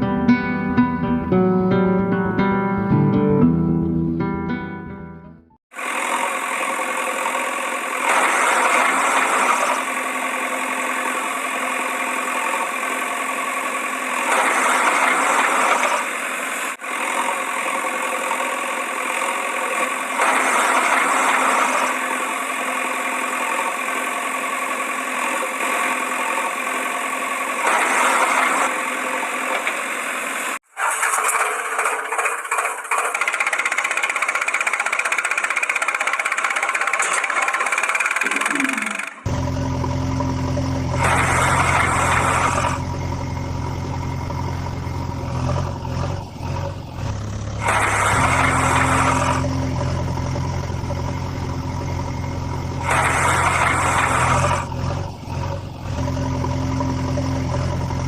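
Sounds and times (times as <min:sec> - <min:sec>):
different engine sound: 0:05.7 - 0:58.0
engine running: 0:05.7 - 0:58.0.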